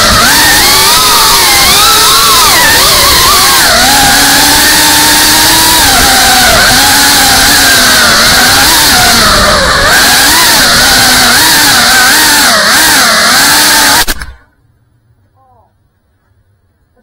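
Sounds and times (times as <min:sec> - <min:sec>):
drone motors whining: 0:00.0 - 0:14.6.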